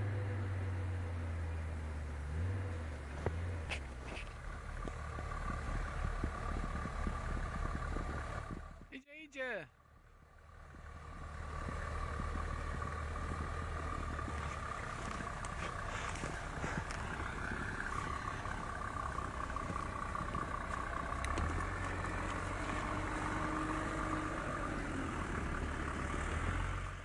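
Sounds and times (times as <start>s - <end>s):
vehicle engine driving past: 0.0s - 8.9s, 9.8s - 27.0s.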